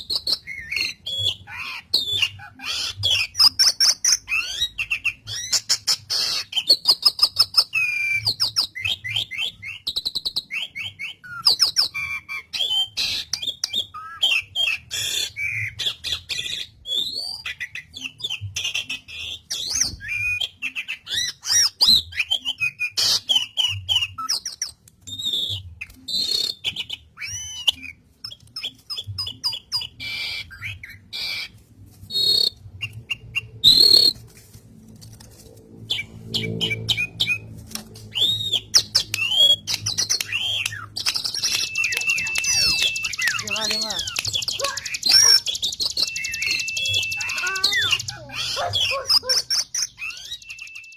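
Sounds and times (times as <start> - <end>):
starling singing whistles and clicks: 0.0 - 34.2, 35.8 - 50.9.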